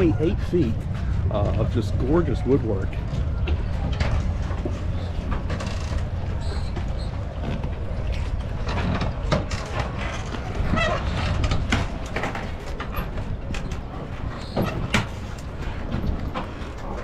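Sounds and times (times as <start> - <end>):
floating dock knocking and creaking: 0.0 - 17.0
wind rumbling on microphone: 0.0 - 17.0.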